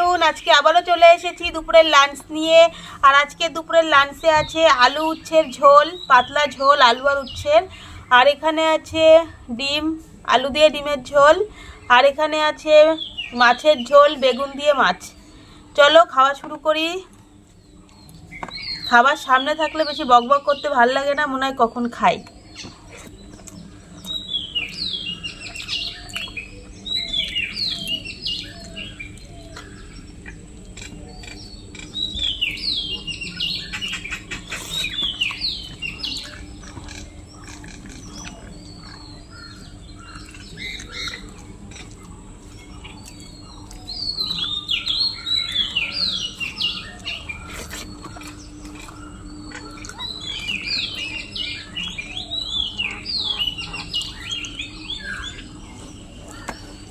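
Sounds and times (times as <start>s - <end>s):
birds chirping: 0.0s - 56.9s
steady low hum: 0.0s - 56.9s.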